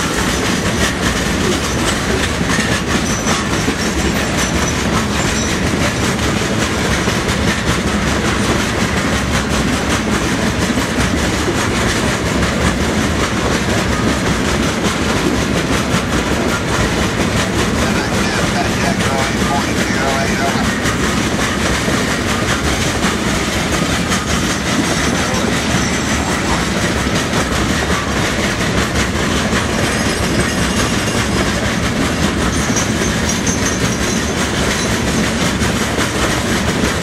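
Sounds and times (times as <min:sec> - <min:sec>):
clickety-clack over rail joints: 0:00.0 - 0:37.0
train wheels rumbling on rail: 0:00.0 - 0:37.0.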